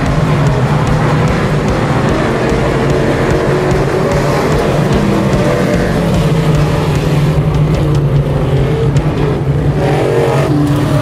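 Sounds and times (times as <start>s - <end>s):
race car engine droning: 0.0s - 11.0s.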